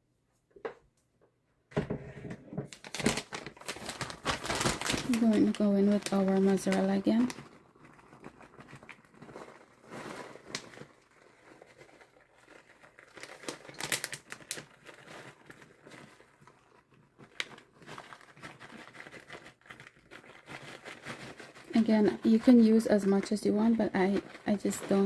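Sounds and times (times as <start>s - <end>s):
packaging crinkling and rustling: 2.7s - 25.0s.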